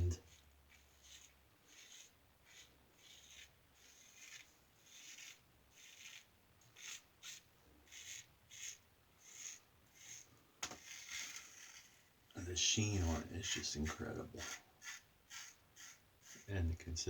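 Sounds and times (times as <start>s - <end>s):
razor scraping stubble: 0.0s - 17.0s.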